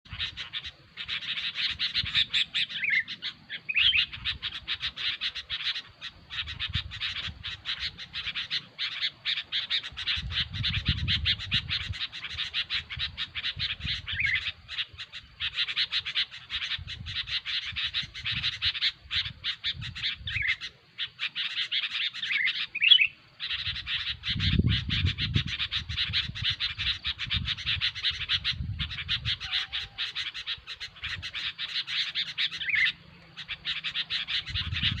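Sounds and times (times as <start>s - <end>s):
birds chattering calls: 0.1s - 35.0s.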